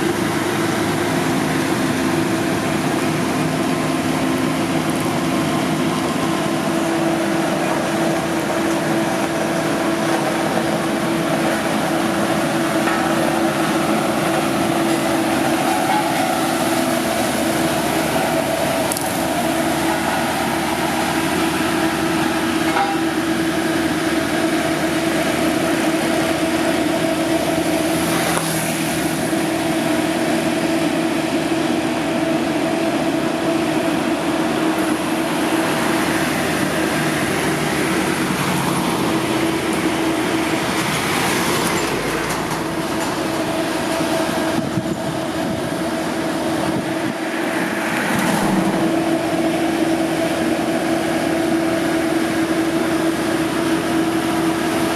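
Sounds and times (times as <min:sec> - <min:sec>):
heavy machinery drone: 0:00.0 - 0:54.9.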